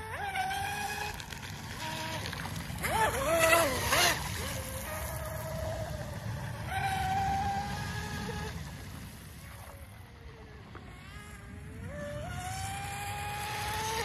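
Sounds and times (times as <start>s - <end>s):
electric motor whine of boat: 0.0s - 14.0s.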